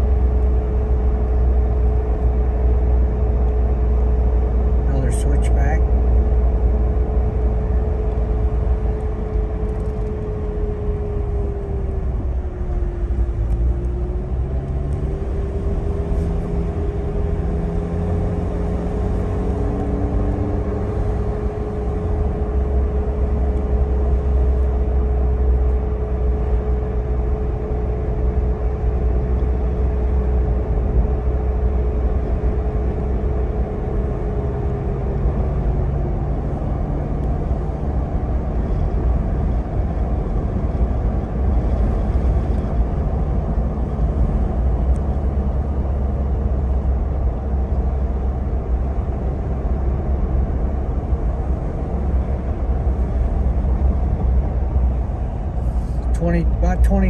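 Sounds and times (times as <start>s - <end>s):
car engine and tyre rumble: 0.0s - 57.0s
steady whine: 0.0s - 57.0s.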